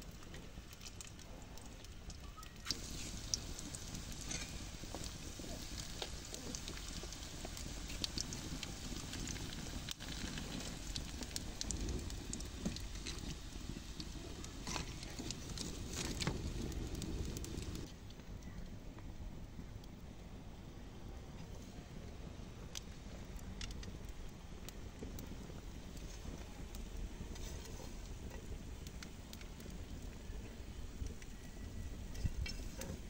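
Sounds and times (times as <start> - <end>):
food frying in hot oil: 0.0 - 17.9, 22.8 - 33.0
wood fire crackling: 0.0 - 33.0.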